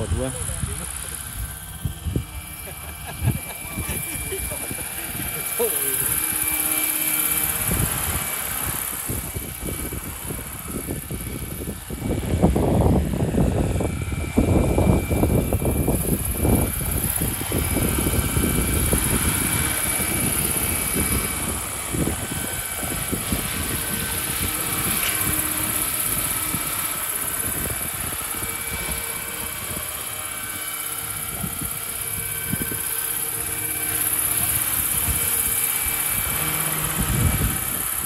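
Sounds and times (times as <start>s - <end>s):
model helicopter rotor whine: 0.0s - 38.0s.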